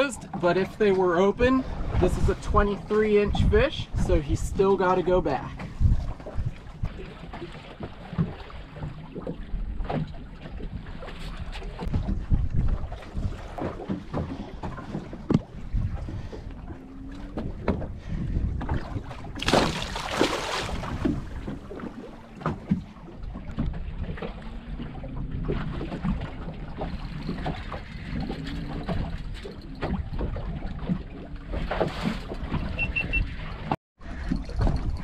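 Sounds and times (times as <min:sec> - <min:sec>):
water moving around boat: 0:00.0 - 0:35.0
wind on microphone: 0:00.8 - 0:07.4, 0:09.6 - 0:35.0.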